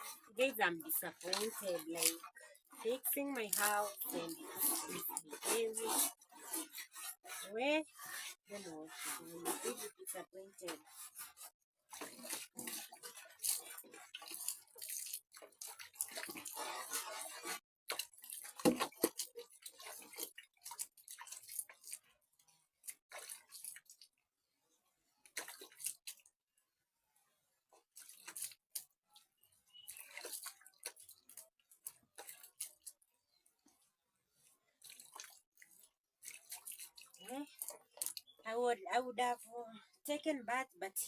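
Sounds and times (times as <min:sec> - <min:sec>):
hands and feet washed in water: 0:00.0 - 0:24.2, 0:25.2 - 0:26.3, 0:27.8 - 0:33.8, 0:34.4 - 0:38.4.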